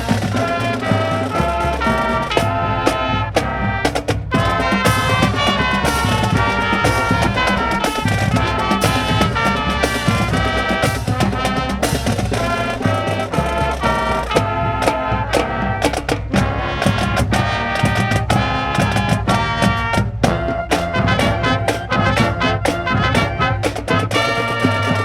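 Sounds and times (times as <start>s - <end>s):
drum beat: 0.0s - 25.0s
school band playing: 0.0s - 25.0s.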